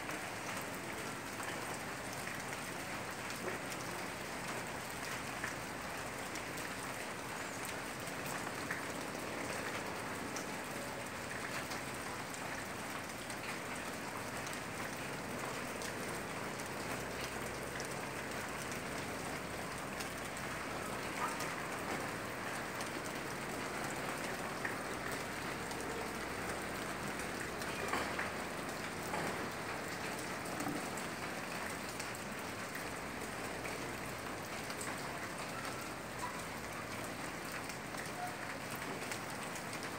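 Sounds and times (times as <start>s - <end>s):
louder raindrops tapping: 0.0s - 39.9s.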